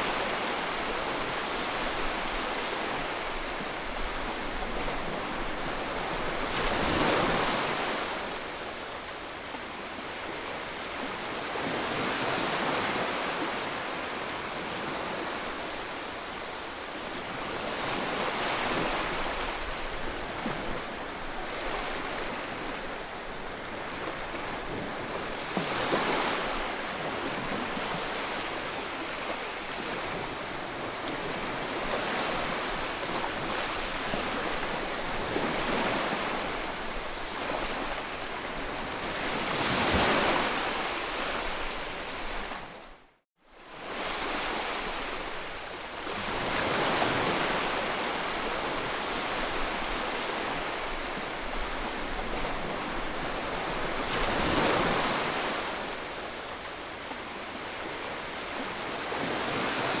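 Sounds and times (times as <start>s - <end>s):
sea waves breaking ashore: 0.0s - 60.0s.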